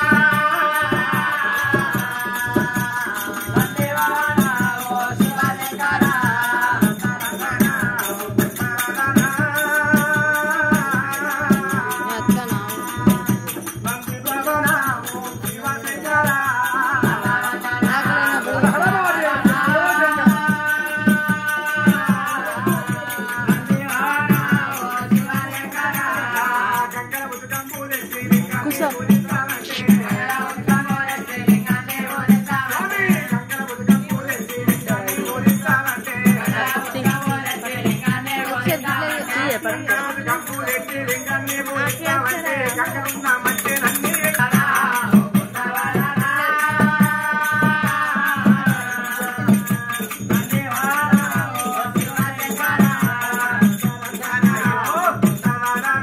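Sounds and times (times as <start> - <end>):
jingling rattle percussion: 0.0 - 56.0
steady drum beat: 0.0 - 56.0.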